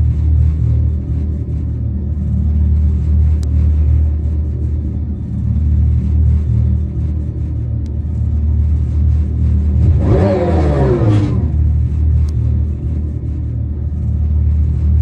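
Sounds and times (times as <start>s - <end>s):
synthetic exhaust rumble: 0.0s - 15.0s.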